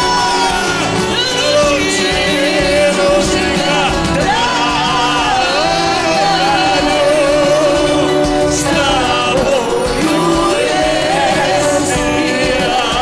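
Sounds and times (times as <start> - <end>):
musical accompaniment: 0.0 - 13.0
people singing with vibrato: 0.0 - 13.0.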